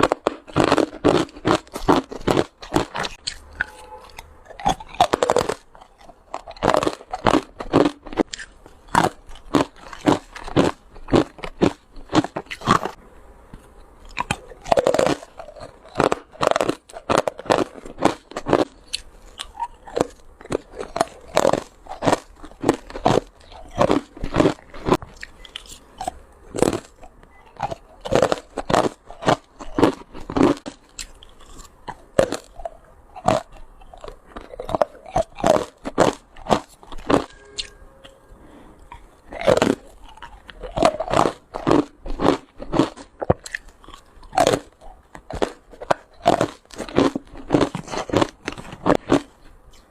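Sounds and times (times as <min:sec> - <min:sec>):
ice crunching in mouth: 0:00.0 - 0:13.0, 0:14.0 - 0:37.7, 0:38.8 - 0:49.9.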